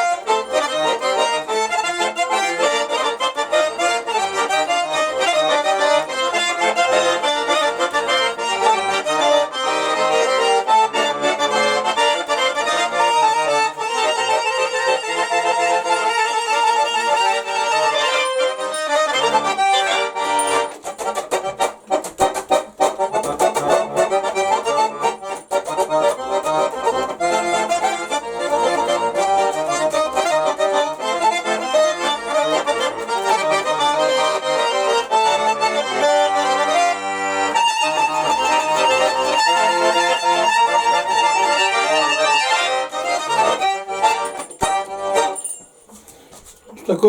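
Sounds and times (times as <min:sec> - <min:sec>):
button accordion folk melody: 0:00.0 - 0:47.0.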